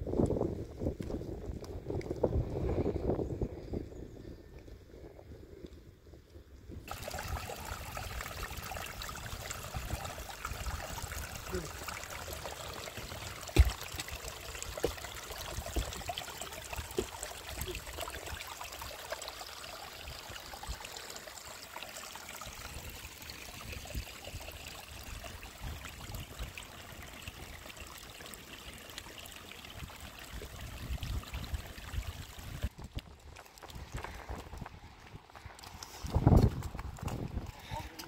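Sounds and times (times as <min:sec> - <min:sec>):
stream trickling over stones: 0:06.8 - 0:38.0.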